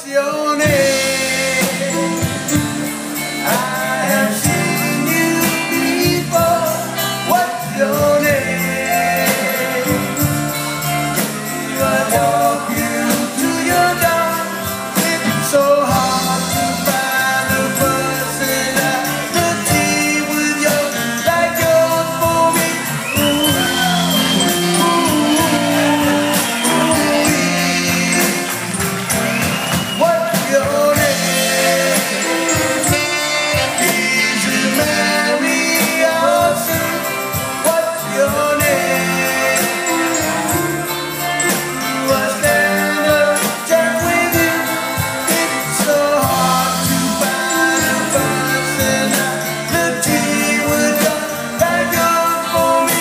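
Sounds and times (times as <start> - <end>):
electric guitar: 0.0 - 53.0
drum kit: 0.6 - 53.0
saxophone: 0.6 - 53.0.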